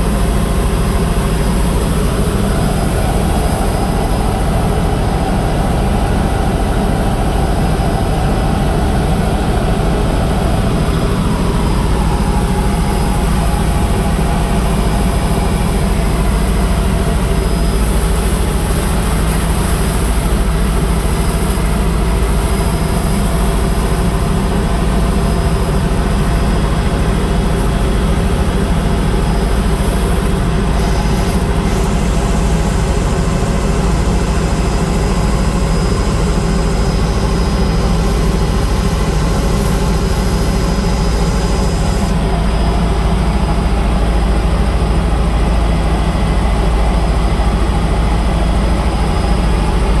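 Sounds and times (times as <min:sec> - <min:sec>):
helicopter engine and rotor: 0:00.0 - 0:50.0.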